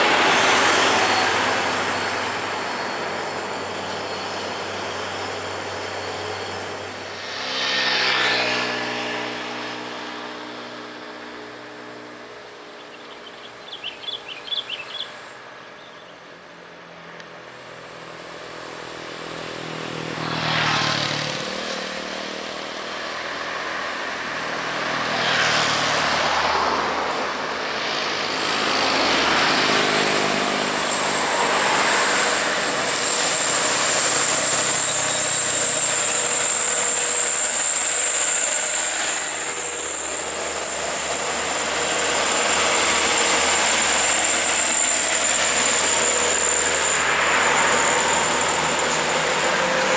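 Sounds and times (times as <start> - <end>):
high-pitched whine: 0.0 - 15.4, 16.8 - 49.9
heavy trucks passing: 0.0 - 15.6, 16.9 - 49.9.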